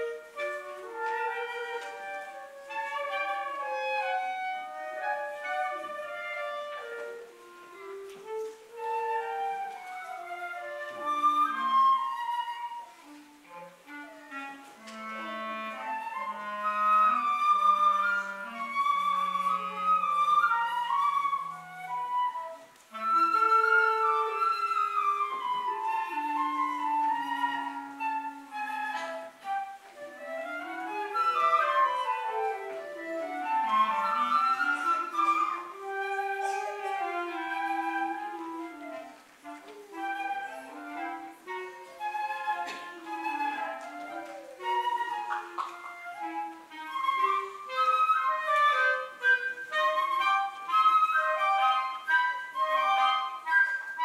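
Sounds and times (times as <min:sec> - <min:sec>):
clarinet: 0:00.0 - 0:54.0
flute: 0:00.0 - 0:54.0.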